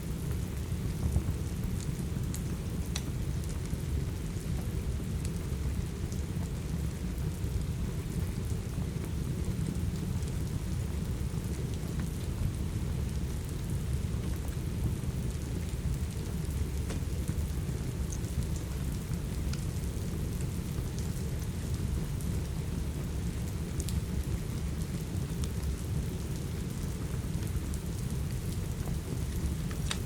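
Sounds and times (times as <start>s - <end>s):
steady rain: 0.0s - 30.0s
wood fire crackling: 0.0s - 30.0s.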